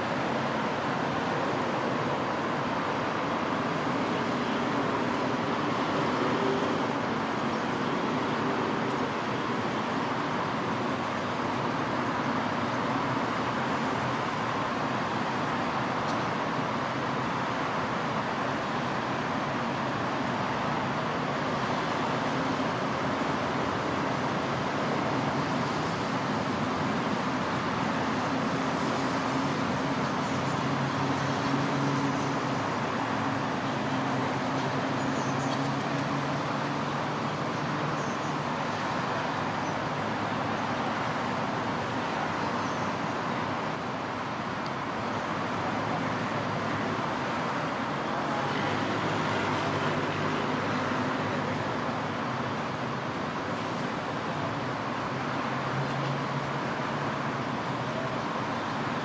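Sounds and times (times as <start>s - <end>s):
road traffic hum: 0.0s - 59.0s.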